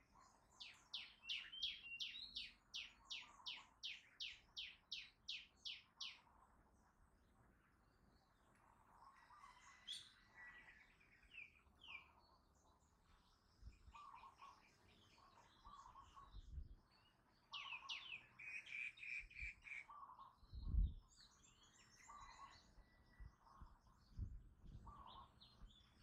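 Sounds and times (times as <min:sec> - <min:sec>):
distant bird calls: 0:00.0 - 0:26.0
songbird singing: 0:00.0 - 0:26.0.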